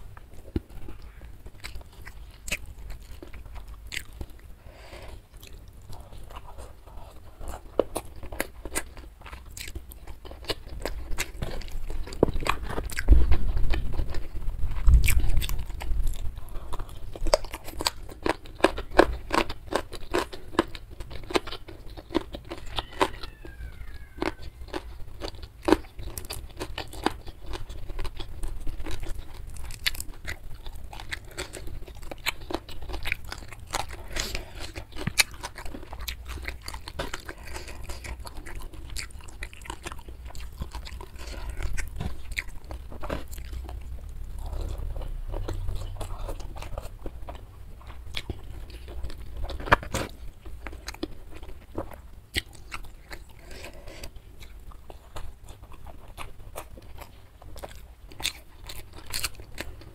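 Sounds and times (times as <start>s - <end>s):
crunchy chewing of food: 0.0s - 59.9s.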